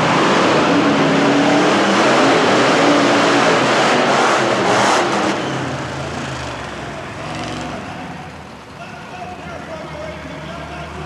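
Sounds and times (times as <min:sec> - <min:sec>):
monster truck engine running: 0:00.1 - 0:11.0.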